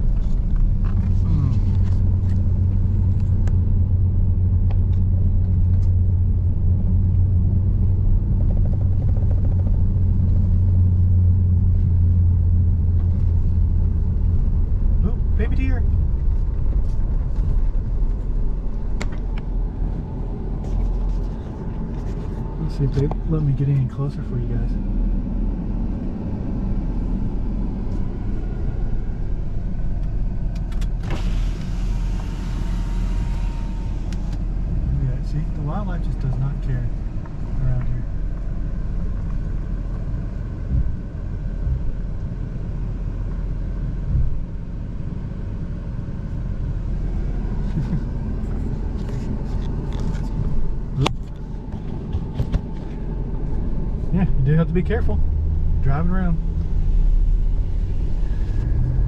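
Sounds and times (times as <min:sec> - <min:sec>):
vehicle driving on dirt road: 0:00.0 - 0:59.0.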